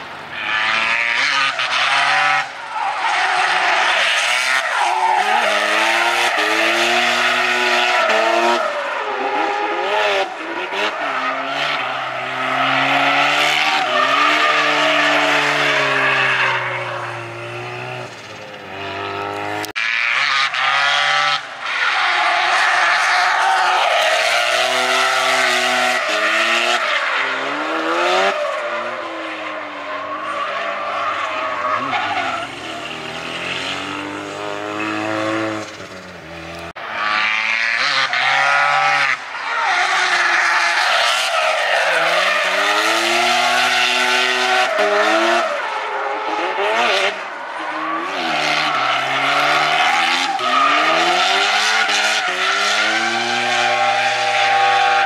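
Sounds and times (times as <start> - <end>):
rotary engine revving: 0.4 - 21.4, 31.0 - 39.2, 39.8 - 55.0.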